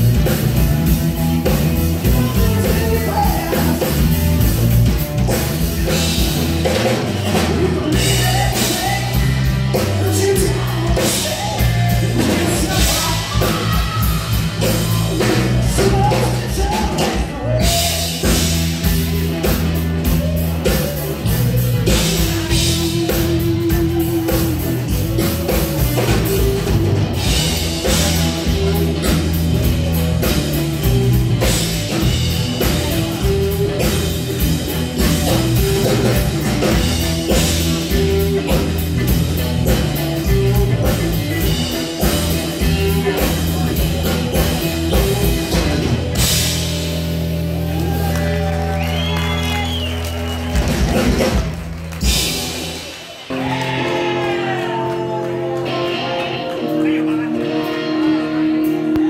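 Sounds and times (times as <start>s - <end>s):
bass guitar: 0.0s - 59.0s
drum kit: 0.0s - 59.0s
electric guitar: 0.0s - 59.0s
keyboards: 0.0s - 59.0s.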